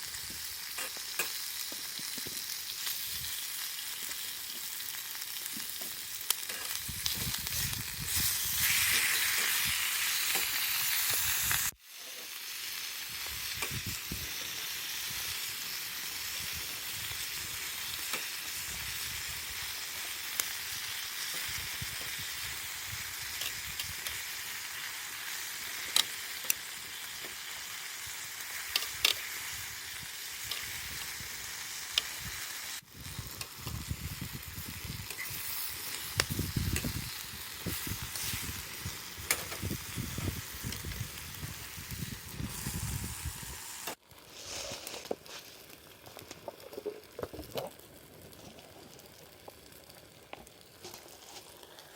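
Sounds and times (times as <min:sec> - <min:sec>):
food sizzling in a pan: 0:00.0 - 0:51.9.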